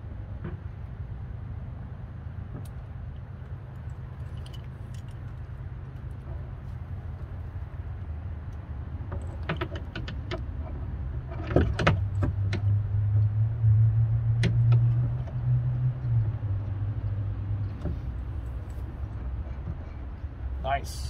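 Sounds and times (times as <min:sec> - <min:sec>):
low engine-like hum: 0:00.0 - 0:21.0.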